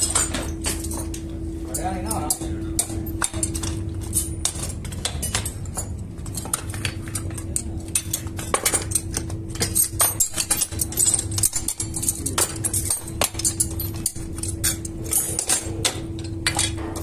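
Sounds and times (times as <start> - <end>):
furnace hum and rumble: 0.0 - 17.0
metal tongs clinking and scraping: 0.0 - 17.0.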